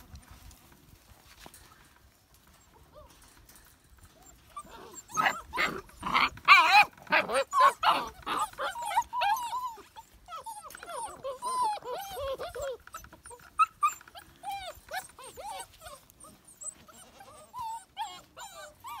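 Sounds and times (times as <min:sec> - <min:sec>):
puppies whining and yipping: 0:02.5 - 0:19.0.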